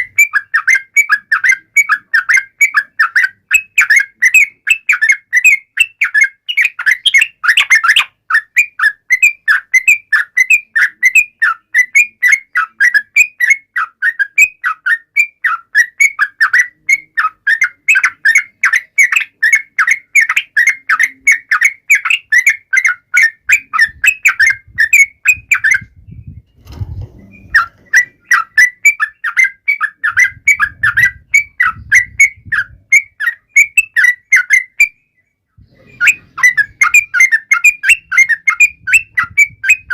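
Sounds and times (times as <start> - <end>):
bird singing chirping notes: 0.0 - 39.9.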